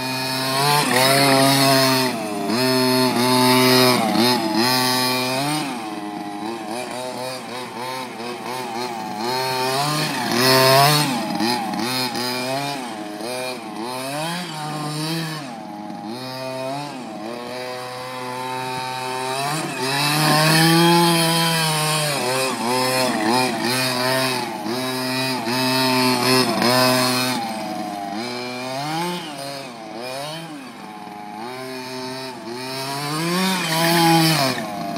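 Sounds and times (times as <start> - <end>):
model car engine revving: 0.0 - 34.9.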